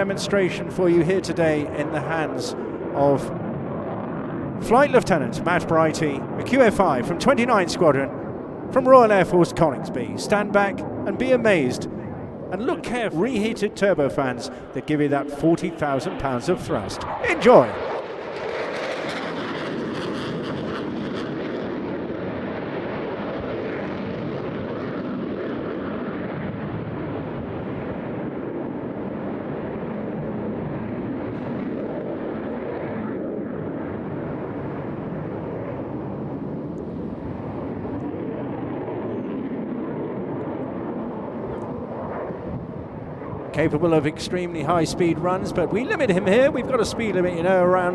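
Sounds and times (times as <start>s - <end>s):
jet engine noise: 0.0s - 47.9s.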